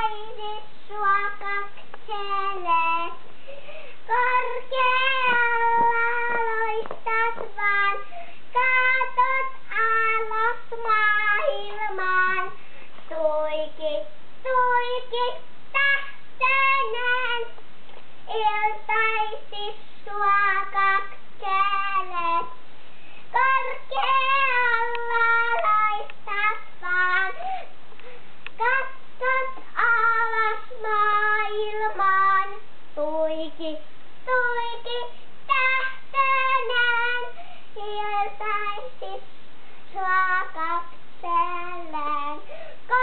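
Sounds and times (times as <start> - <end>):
girl singing unaccompanied: 0.0 - 43.0.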